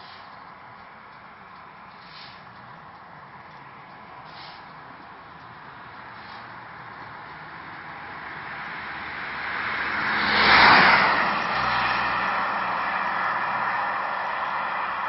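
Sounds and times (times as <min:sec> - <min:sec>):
vehicle passing by: 0:01.3 - 0:15.0.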